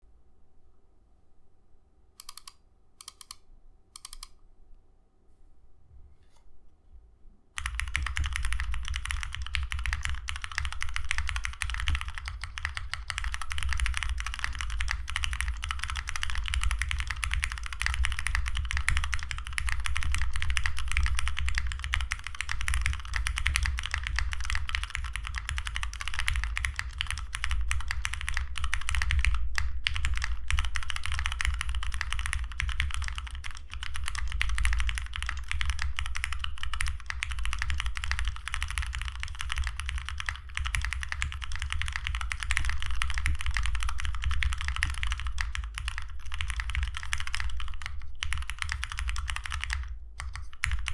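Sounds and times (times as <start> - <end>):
mechanical keyboard typing: 2.2 - 3.4, 4.0 - 4.4, 7.6 - 50.9.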